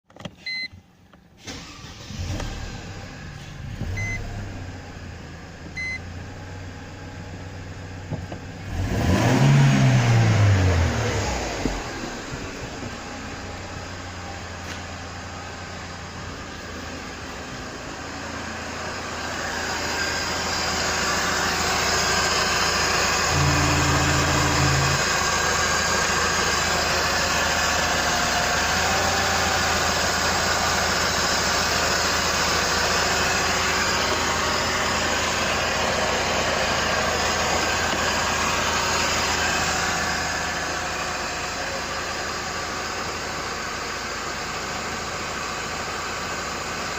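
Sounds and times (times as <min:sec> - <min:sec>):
car engine running: 0:02.2 - 0:46.9.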